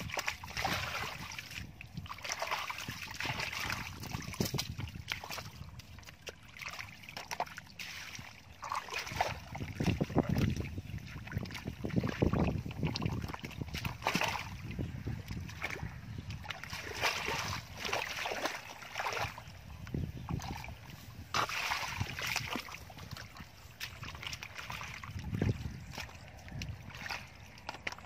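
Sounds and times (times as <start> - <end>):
bare feet wading in mud: 0.0 - 28.0
muddy water sloshing and splashing: 0.0 - 28.0.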